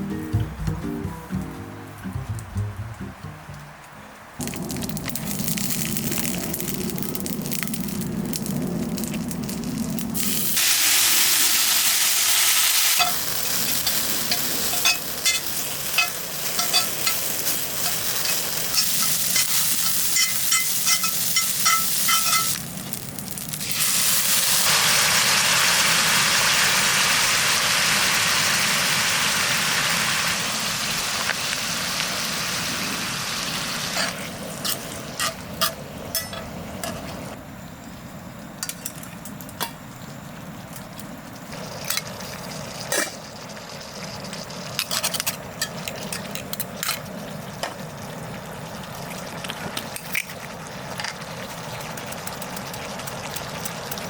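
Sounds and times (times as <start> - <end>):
food sizzling in a pan: 4.4 - 35.7, 41.4 - 54.0.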